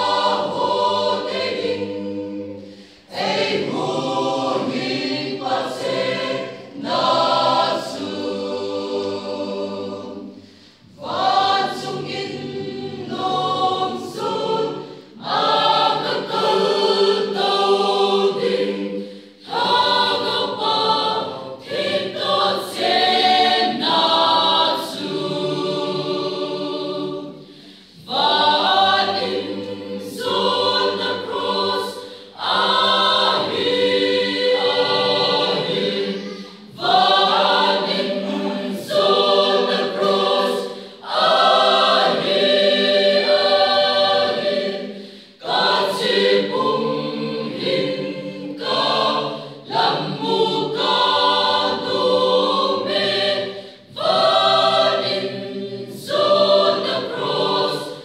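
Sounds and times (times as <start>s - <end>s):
mixed choir singing unaccompanied: 0.0s - 58.0s.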